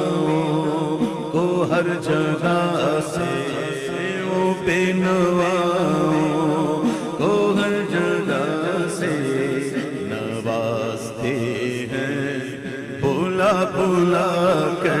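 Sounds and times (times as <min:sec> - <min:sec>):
man singing ornamented melody: 0:00.0 - 0:15.0.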